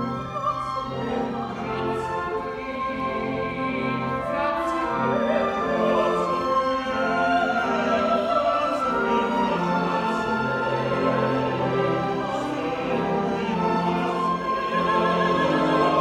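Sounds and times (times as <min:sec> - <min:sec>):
singers singing with vibrato: 0:00.0 - 0:16.0
theatre orchestra playing: 0:00.0 - 0:16.0.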